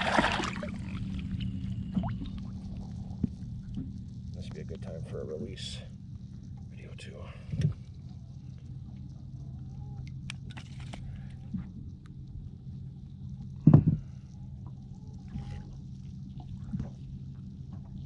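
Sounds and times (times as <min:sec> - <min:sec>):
low hum: 0:00.0 - 0:18.0
water sloshing against hull: 0:00.0 - 0:18.0.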